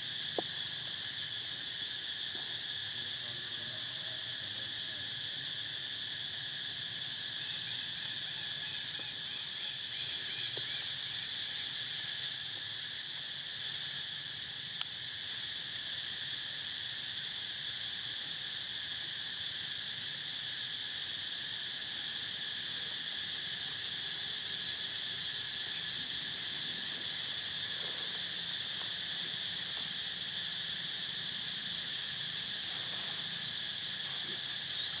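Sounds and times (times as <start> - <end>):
forest insects droning: 0.0 - 35.0.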